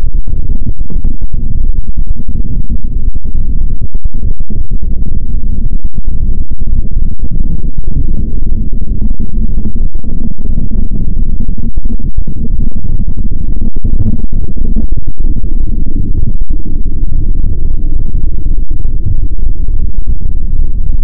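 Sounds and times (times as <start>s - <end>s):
distorted low rumbling: 0.0s - 21.0s.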